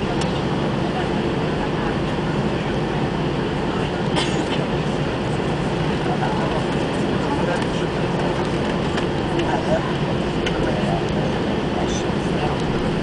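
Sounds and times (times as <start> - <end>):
aircraft rolling rumble: 0.0 - 13.0
jet engines humming: 0.0 - 13.0.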